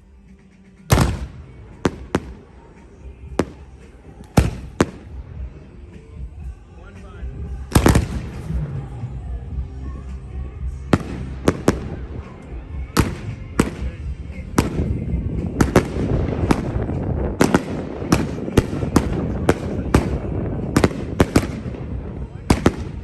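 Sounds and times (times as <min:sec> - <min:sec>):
fireworks crackle: 0:00.0 - 0:06.2, 0:07.5 - 0:23.0
fireworks bangs: 0:00.8 - 0:06.1, 0:07.4 - 0:23.0.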